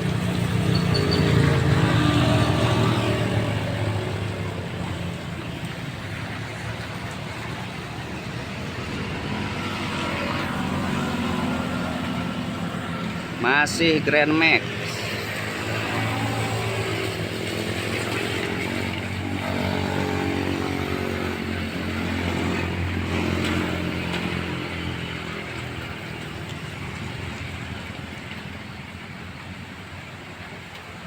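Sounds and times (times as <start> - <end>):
van engine labouring: 0.0 - 26.1.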